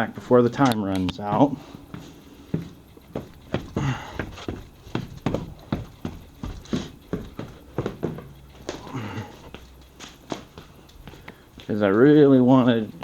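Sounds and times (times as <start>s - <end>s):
quick footsteps on bare floor: 0.0s - 12.5s.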